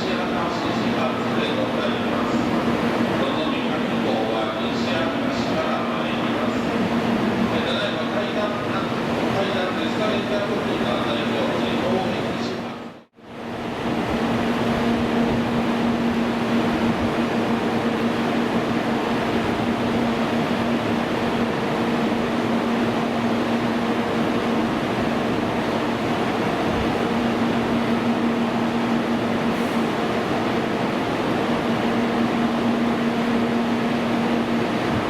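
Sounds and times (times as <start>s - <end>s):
train equipment hum and hiss: 0.0s - 35.0s.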